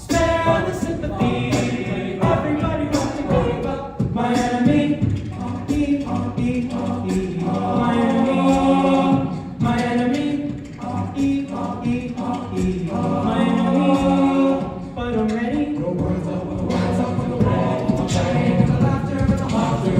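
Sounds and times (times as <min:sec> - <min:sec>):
a cappella group singing chords: 0:00.0 - 0:19.9.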